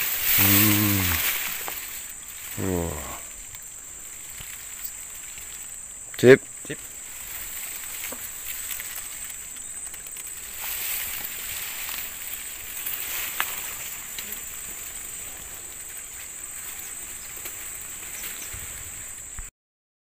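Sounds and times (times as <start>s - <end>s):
brush rustling: 0.0s - 19.5s
insects droning: 0.0s - 19.5s.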